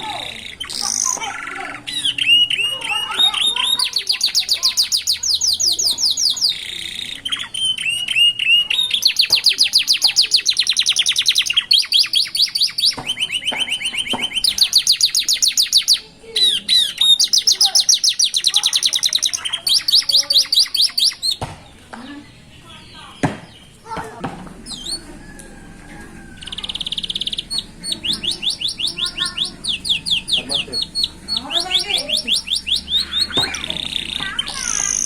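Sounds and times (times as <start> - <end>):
canary singing trills: 0.0 - 21.4, 24.6 - 35.0.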